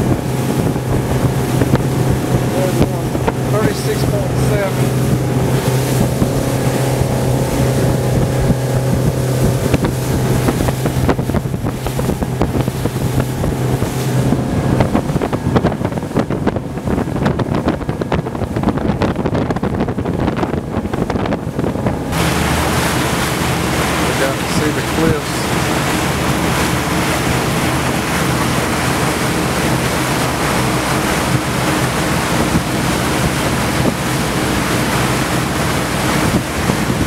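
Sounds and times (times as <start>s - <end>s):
choppy water splashing: 0.0s - 37.0s
motorboat engine droning: 0.0s - 37.0s
water rushing: 0.0s - 37.0s
wind on the microphone: 0.0s - 37.0s.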